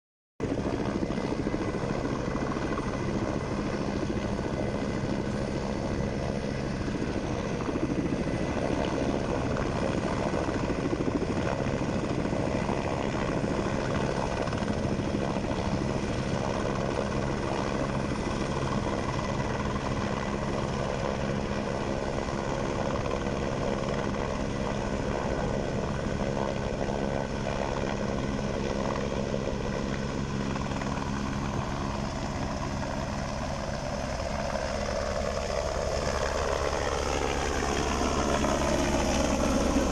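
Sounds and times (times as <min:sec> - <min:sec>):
helicopter rotor chopping: 0:00.4 - 0:39.9.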